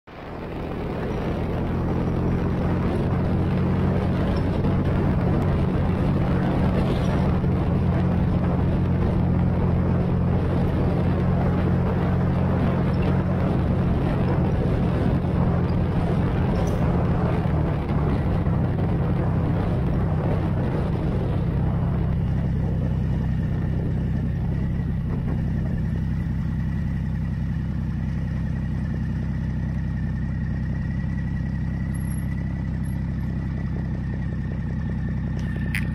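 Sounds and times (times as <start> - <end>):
wind and road noise: 0.0 - 35.9
motorcycle engine running: 0.1 - 35.9.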